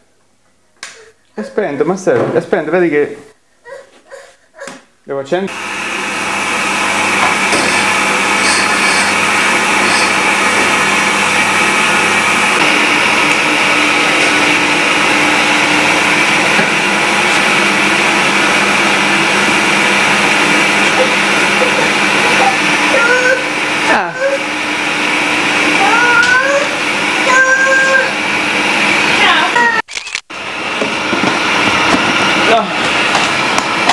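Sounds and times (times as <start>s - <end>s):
vacuum cleaner running: 5.3s - 33.9s.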